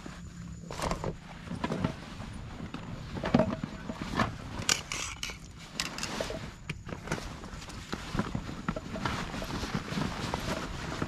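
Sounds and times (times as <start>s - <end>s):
nylon gear rustling and knocking: 0.7s - 11.0s.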